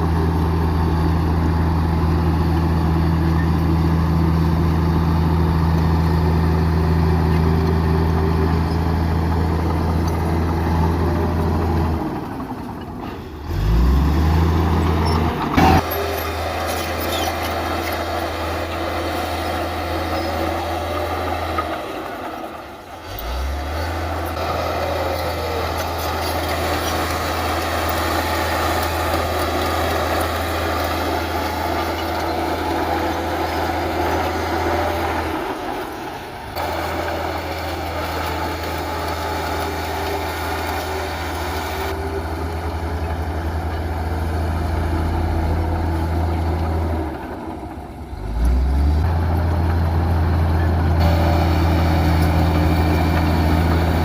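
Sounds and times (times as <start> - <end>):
heavy diesel machinery engine drone: 0.0 - 54.0.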